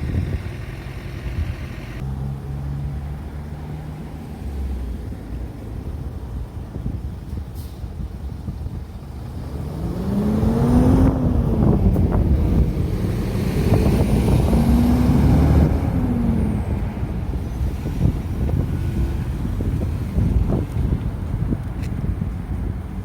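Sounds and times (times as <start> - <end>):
low traffic rumble: 0.0 - 23.0
vehicles passing: 0.0 - 23.0.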